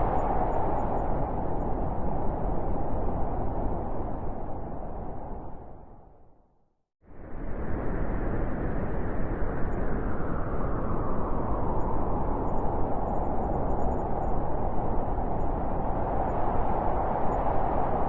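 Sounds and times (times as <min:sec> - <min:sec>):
howling blizzard wind: 0:00.0 - 0:06.3, 0:07.1 - 0:18.0.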